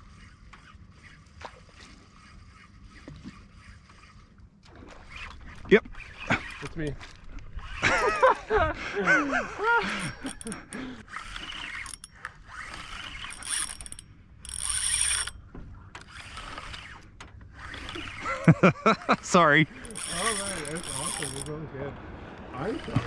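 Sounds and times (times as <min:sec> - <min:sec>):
fishing reel clicking and whirring: 0:00.0 - 0:08.3, 0:09.6 - 0:21.6, 0:22.6 - 0:23.0.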